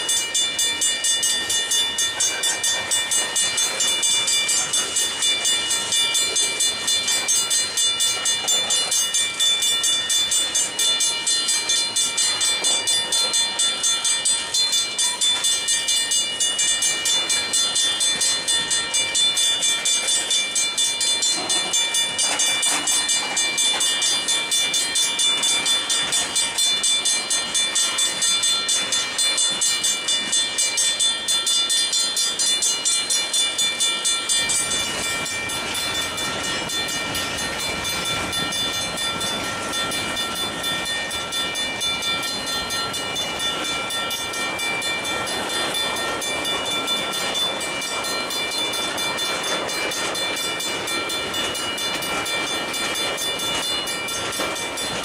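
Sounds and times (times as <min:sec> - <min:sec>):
freight train wheels rumbling on rails: 0:00.0 - 0:55.0
railroad crossing bell ringing: 0:00.0 - 0:55.0.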